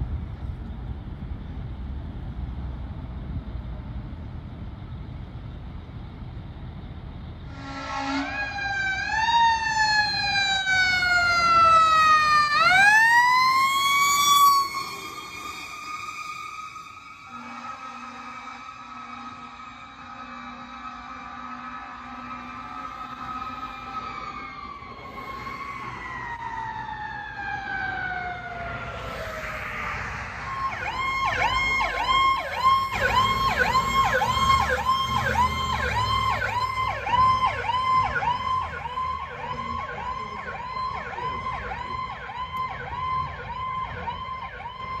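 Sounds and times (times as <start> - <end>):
engine and traffic rumble: 0.0 - 45.0
electronic siren yelp: 7.5 - 45.0
fire siren winding down: 7.5 - 45.0.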